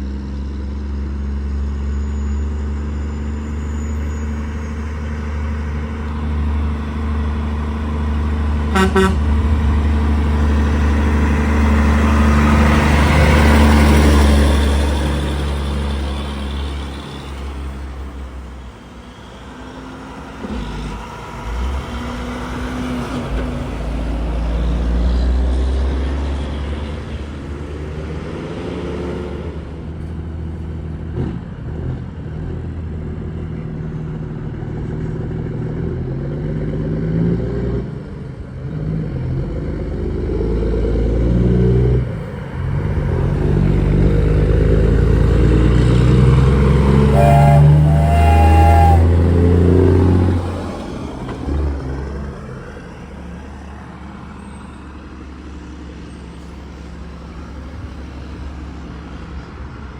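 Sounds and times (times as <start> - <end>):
road traffic driving past: 0.0 - 59.9.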